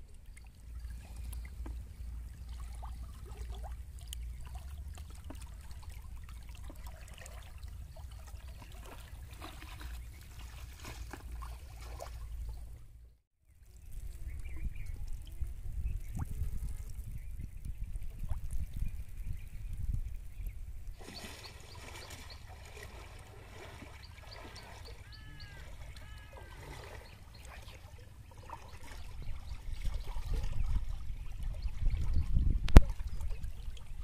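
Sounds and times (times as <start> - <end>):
water sloshing and trickling: 0.0 - 34.0.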